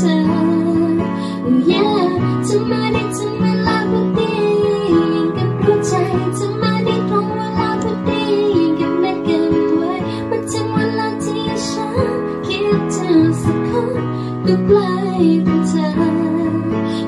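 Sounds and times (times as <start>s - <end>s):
piano chords: 0.0s - 17.0s
young woman singing: 0.0s - 17.0s.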